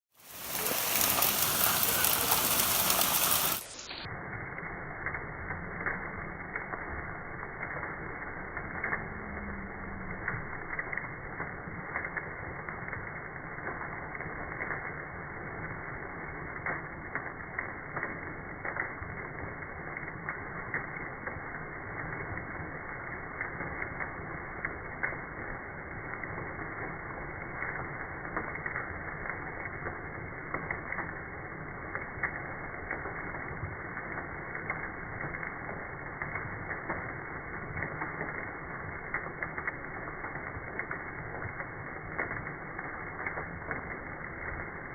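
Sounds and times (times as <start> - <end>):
hailstones pelting down: 0.1 - 3.9, 5.5 - 44.9.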